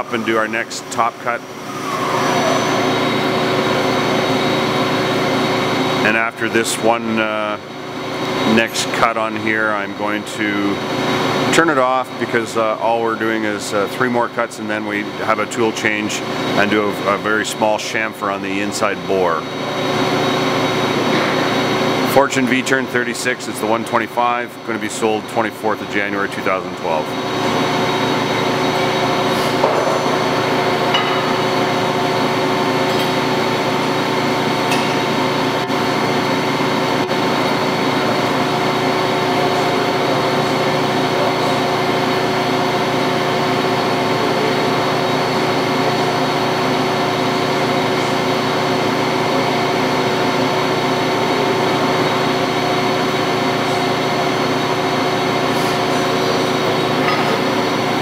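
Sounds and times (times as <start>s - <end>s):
lathe machine hum: 0.0s - 58.0s.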